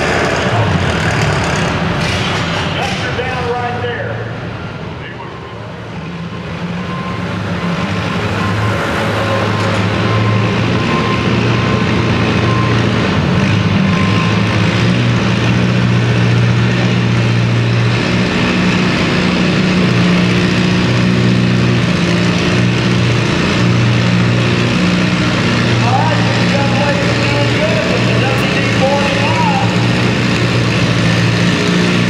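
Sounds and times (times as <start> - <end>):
tractor engine running under load: 0.0 - 4.9, 5.9 - 32.0.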